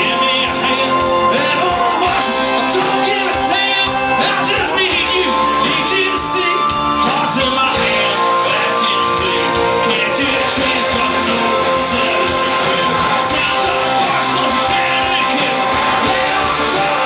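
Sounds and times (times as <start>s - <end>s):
bass guitar: 0.0s - 17.0s
drums: 0.0s - 17.0s
electric guitars: 0.0s - 17.0s
keyboards: 0.0s - 17.0s.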